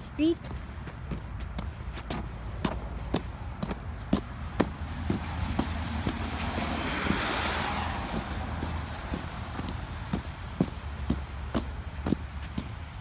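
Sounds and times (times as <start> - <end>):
footsteps in snow: 0.4 - 13.0
car passing on snowy road: 0.6 - 13.0.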